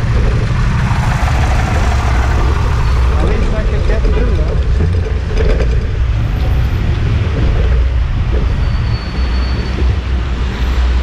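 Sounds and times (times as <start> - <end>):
city traffic: 0.0 - 11.0
wind rumble on microphone: 0.0 - 11.0.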